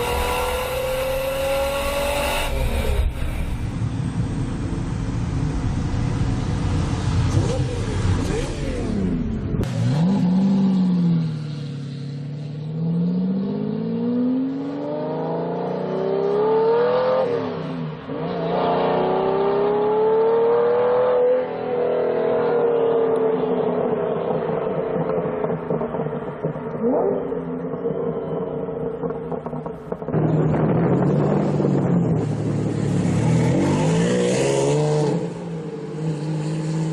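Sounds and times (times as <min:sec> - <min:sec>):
car engine accelerating hard: 0:00.0 - 0:36.9.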